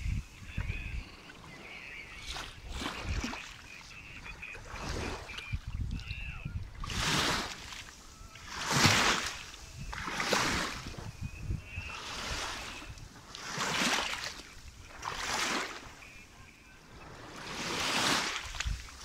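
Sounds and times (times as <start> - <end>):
small waves lapping on shore: 0.0 - 19.0.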